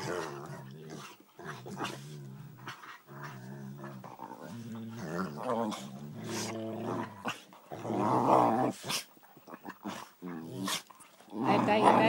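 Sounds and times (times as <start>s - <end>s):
dogs growling: 0.0s - 12.0s.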